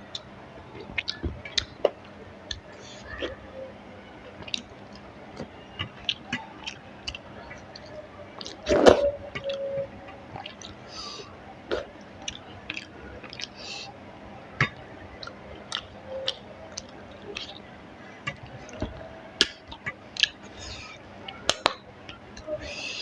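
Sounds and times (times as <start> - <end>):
chewing clicks and wet smacks: 0.1 - 3.4, 4.1 - 8.8, 9.4 - 23.0.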